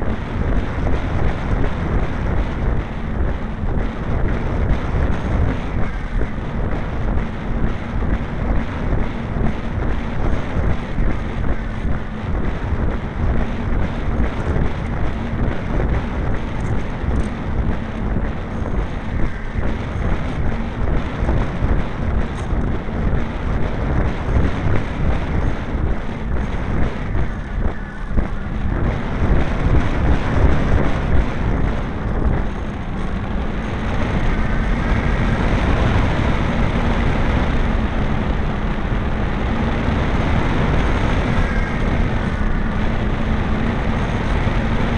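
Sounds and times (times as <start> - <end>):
model plane engine running: 0.0 - 44.9
wind rushing over microphone: 0.0 - 44.9.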